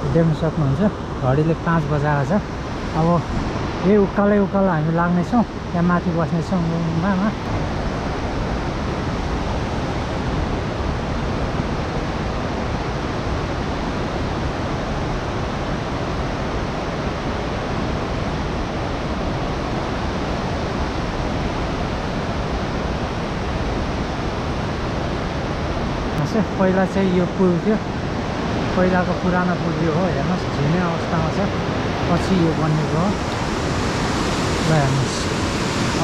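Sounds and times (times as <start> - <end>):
whitewater river rushing: 0.0 - 36.0.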